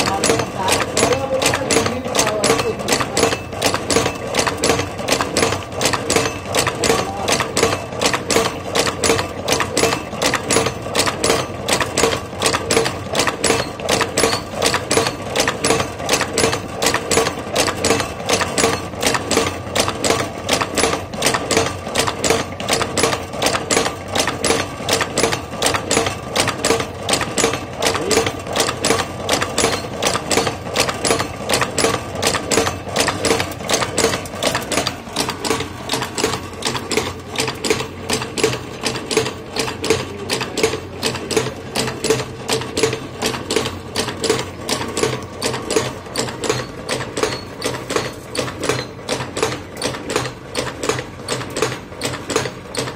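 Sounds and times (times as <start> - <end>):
machine mechanical clatter: 0.0 - 52.9.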